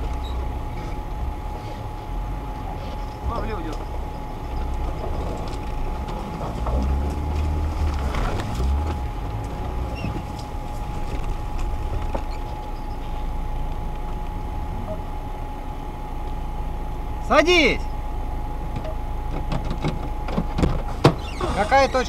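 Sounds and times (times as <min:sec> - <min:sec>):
engine idling: 0:00.0 - 0:22.0
faint steady whine: 0:00.0 - 0:22.0.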